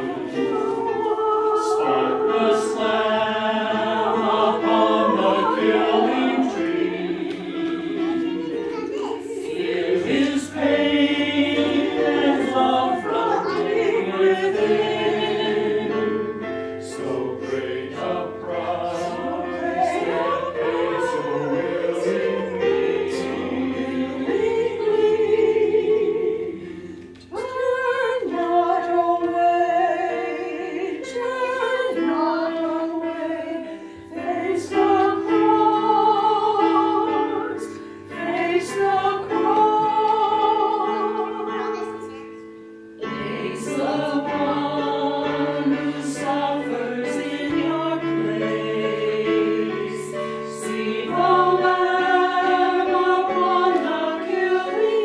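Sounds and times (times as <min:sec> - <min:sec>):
mixed choir singing: 0:00.0 - 0:55.0.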